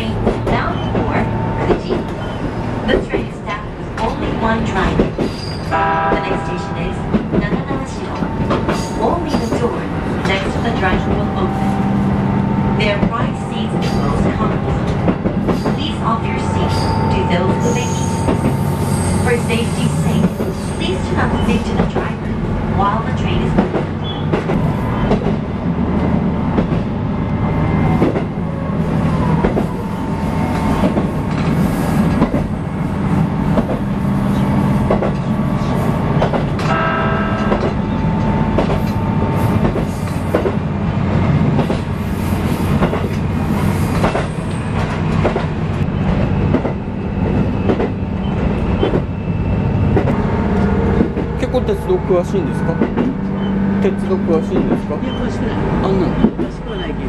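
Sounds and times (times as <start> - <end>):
railcar engine drone: 0.0 - 57.0.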